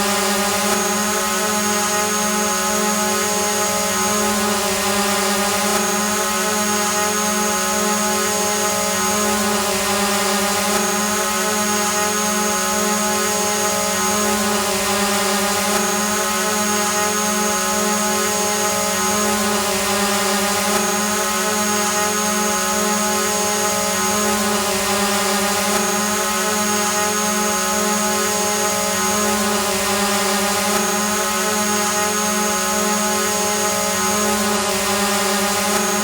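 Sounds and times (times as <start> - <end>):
drone propeller hum: 0.0 - 36.0.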